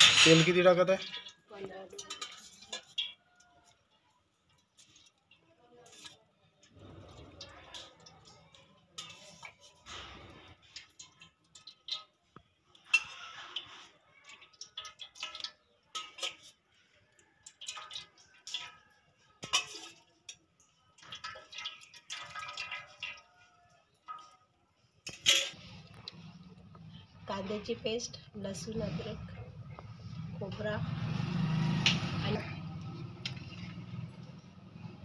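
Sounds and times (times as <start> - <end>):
steel ladle clinking and scraping: 0.0 - 30.7
oil dripping and splashing: 0.0 - 35.0.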